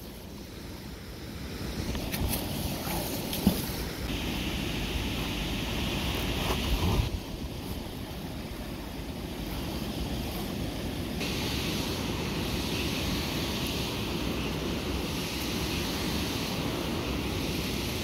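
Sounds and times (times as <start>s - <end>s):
river water rushing: 1.8s - 18.0s
wind buffeting microphone: 1.8s - 18.0s.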